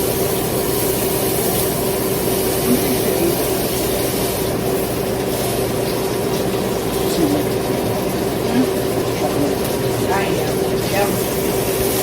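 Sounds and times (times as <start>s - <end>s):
kitchen appliance fan humming: 0.0s - 12.0s.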